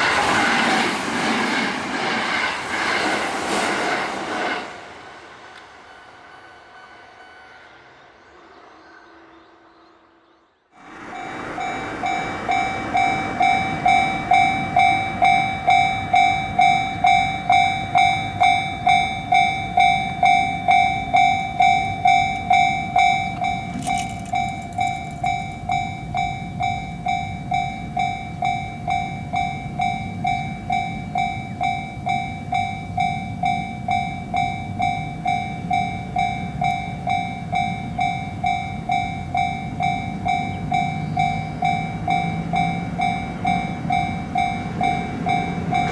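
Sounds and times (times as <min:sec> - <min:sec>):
train rumble: 0:00.0 - 0:08.6, 0:10.8 - 0:45.9
level-crossing warning bell: 0:06.2 - 0:07.9, 0:10.8 - 0:45.9.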